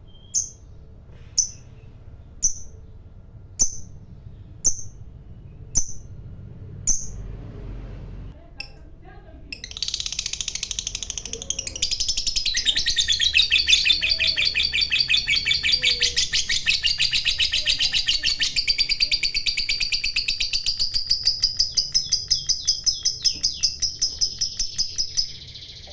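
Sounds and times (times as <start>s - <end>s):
lovebird chattering: 0.1s - 3.0s, 3.6s - 6.2s, 9.5s - 25.9s.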